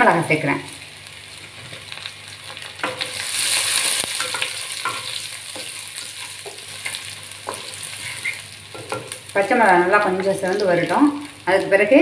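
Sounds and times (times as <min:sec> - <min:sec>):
chillies sizzling in oil: 0:00.0 - 0:12.0.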